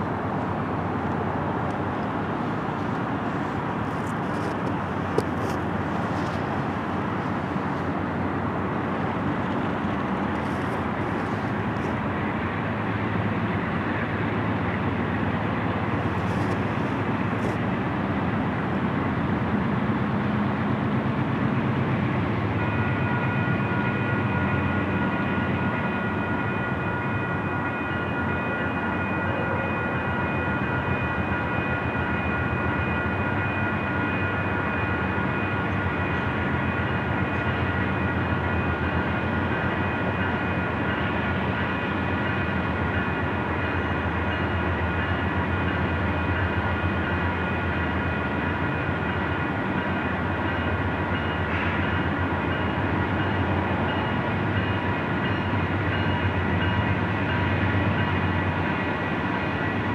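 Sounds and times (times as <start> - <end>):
diesel freight train rumble: 0.0 - 59.9.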